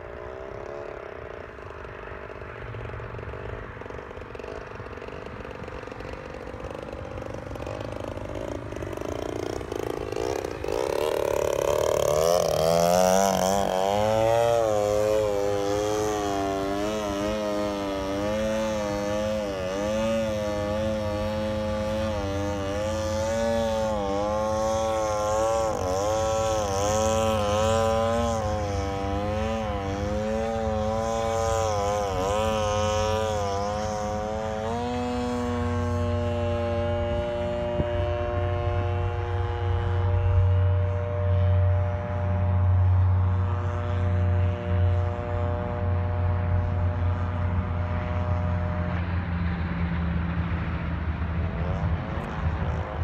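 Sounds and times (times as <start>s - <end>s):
model airplane engine buzzing: 0.0s - 53.0s.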